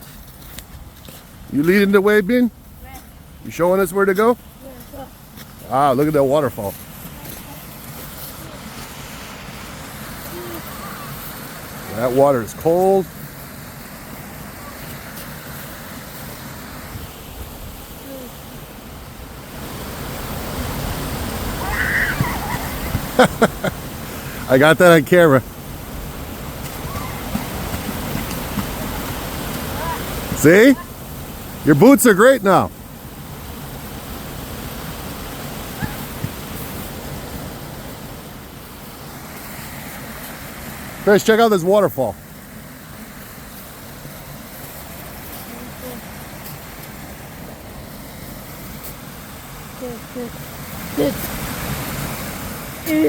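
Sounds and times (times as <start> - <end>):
small waterfall rushing: 0.0 - 53.0.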